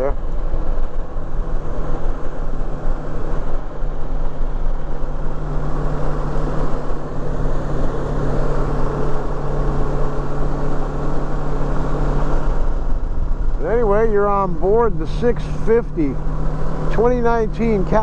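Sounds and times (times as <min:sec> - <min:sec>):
motorcycle engine cruising: 0:00.0 - 0:18.0
wind and road noise: 0:00.0 - 0:18.0.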